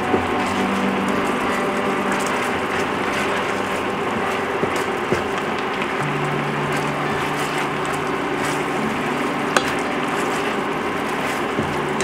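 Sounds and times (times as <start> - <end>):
sauce boiling and sizzling: 0.0 - 12.0
steady low hum: 0.0 - 12.0
wooden spatula stirring: 0.0 - 12.0.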